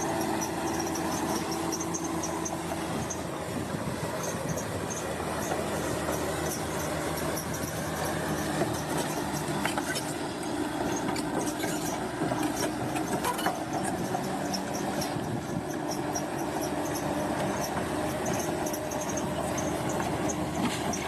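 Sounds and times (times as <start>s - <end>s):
diesel engine running: 0.0s - 21.0s
steel tracks clanking and squeaking: 0.0s - 21.0s.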